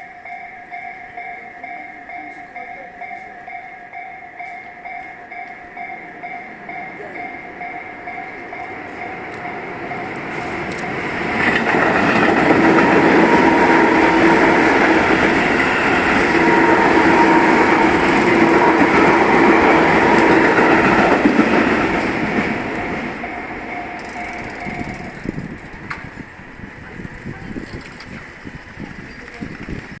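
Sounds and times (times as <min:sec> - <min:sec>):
level-crossing warning bell: 0:00.0 - 0:25.8
electric train passing: 0:00.0 - 0:30.0.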